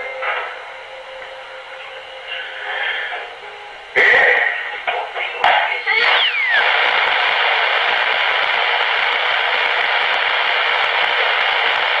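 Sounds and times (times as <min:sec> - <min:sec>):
radio static hiss: 0:01.6 - 0:12.0.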